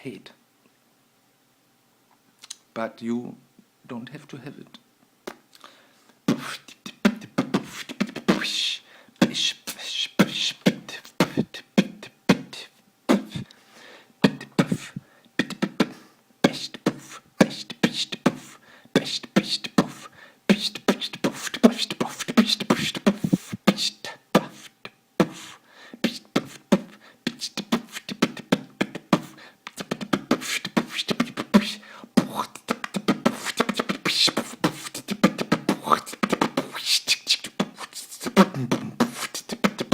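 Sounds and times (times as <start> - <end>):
man beatboxing: 6.3 - 13.5, 14.2 - 39.9.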